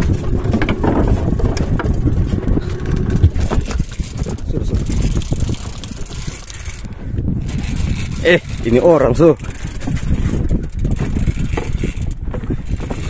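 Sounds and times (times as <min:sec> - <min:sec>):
outboard motor running: 0:00.0 - 0:13.0
wind buffeting microphone: 0:00.0 - 0:13.0.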